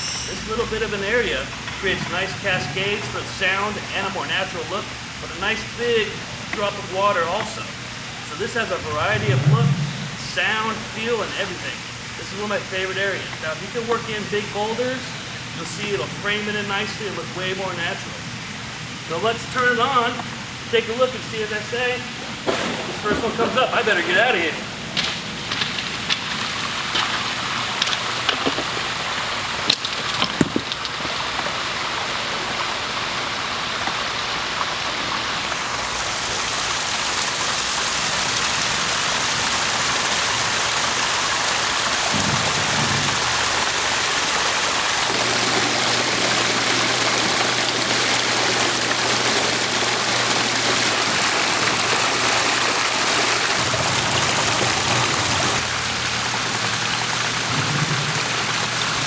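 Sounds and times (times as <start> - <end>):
waterfall splashing into pond: 0.0 - 8.8, 10.4 - 59.0.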